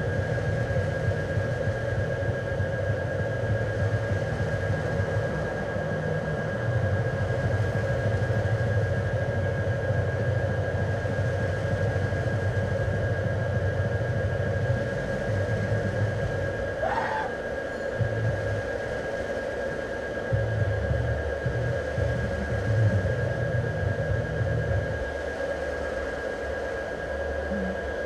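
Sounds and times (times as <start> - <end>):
constant high tone: 0.0 - 28.0
droning hum: 0.0 - 28.0
pulsing low throb: 0.0 - 28.0.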